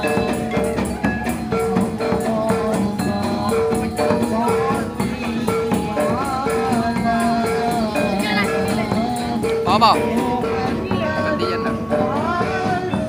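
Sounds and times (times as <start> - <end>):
crowd voices: 0.0 - 13.0
percussion ensemble playing: 0.0 - 13.0.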